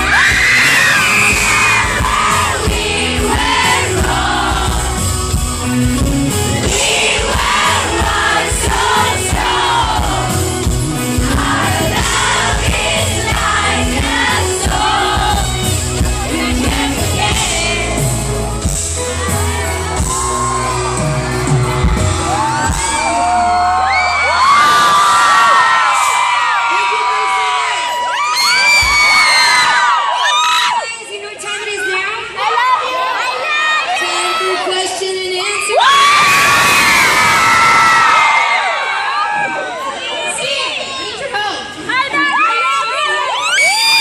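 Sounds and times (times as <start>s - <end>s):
crowd shouting along: 0.0s - 5.8s, 6.6s - 31.0s, 32.2s - 44.0s
live pop song through loudspeakers: 0.0s - 44.0s.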